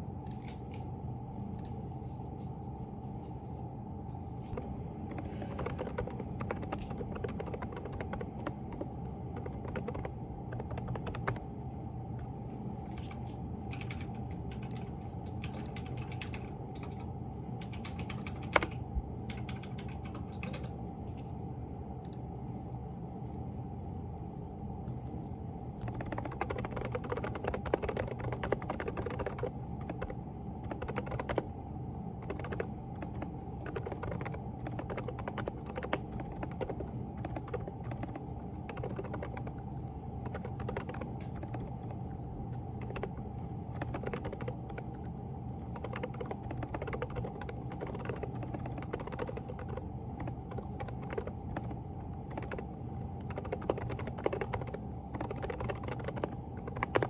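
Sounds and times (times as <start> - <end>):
steady low hum: 0.0 - 57.0
fast typing on mechanical keyboard: 4.5 - 20.8, 25.8 - 57.0.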